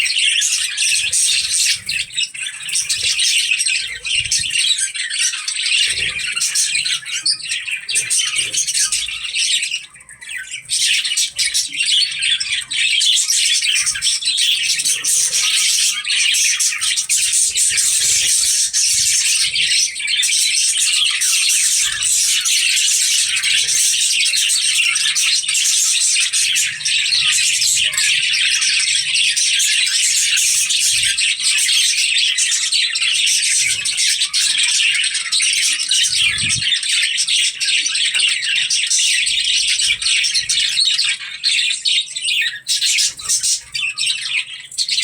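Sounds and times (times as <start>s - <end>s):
budgerigars chattering: 0.0s - 45.0s.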